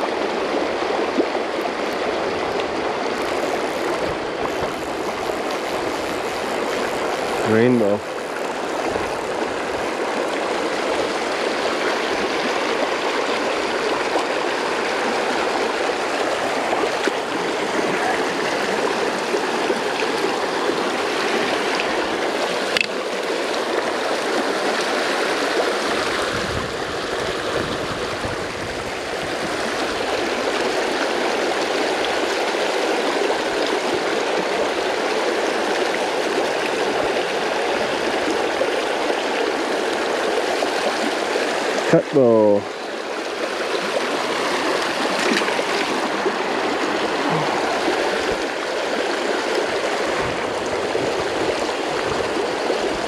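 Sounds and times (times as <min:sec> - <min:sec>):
creek running over rocks: 0:00.0 - 0:53.0.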